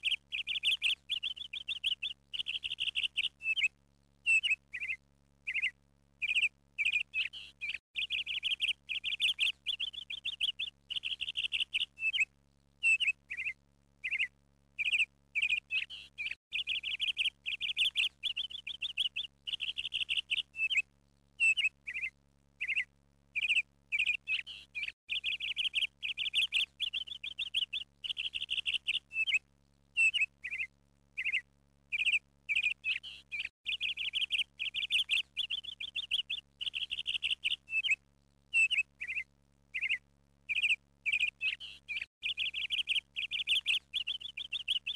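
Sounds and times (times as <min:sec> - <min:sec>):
bird chirping and trilling: 0:00.0 - 0:03.7, 0:04.3 - 0:20.8, 0:21.4 - 0:29.4, 0:30.0 - 0:44.9.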